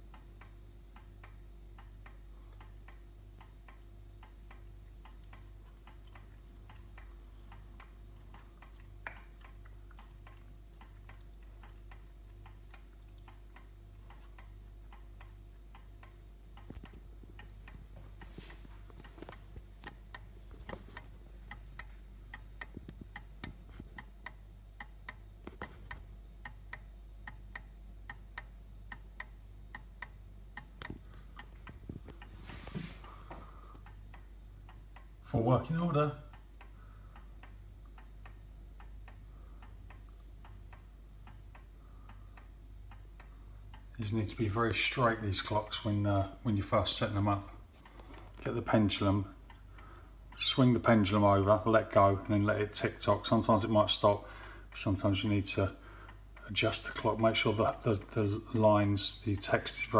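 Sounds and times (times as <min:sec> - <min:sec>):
clock ticking: 0:00.0 - 0:32.4, 0:33.0 - 0:59.9
faint low hum: 0:00.0 - 0:59.9.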